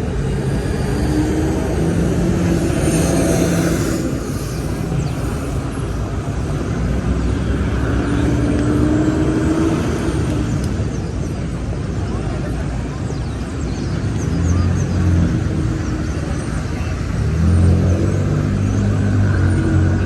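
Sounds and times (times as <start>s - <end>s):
traffic engines rumbling: 0.0s - 20.0s.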